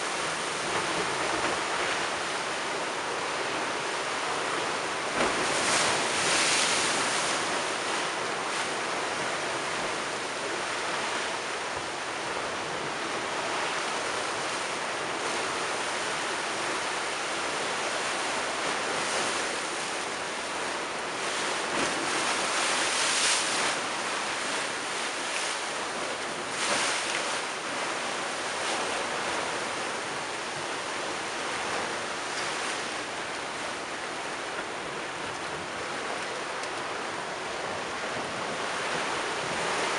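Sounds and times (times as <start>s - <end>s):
waves crashing on sea wall: 0.0s - 39.9s.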